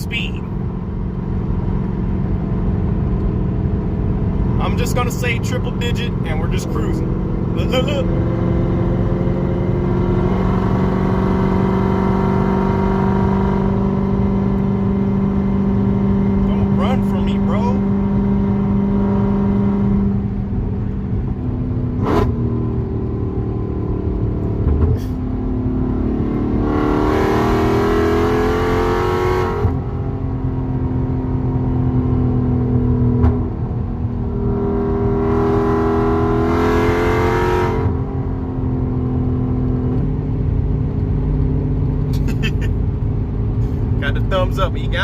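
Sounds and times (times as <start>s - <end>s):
car engine accelerating: 0.0s - 45.0s
road noise: 0.0s - 45.0s.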